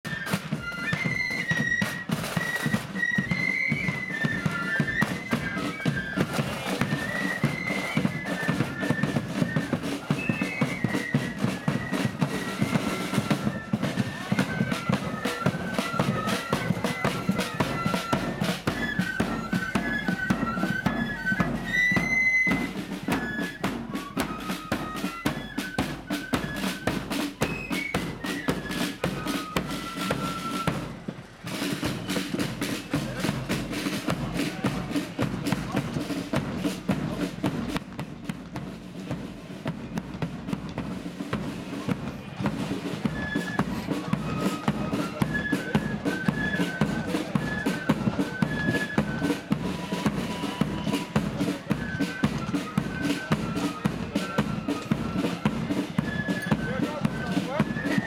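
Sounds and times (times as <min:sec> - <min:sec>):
high flute melody: 0:00.0 - 0:58.0
snare drumming: 0:00.0 - 0:58.0.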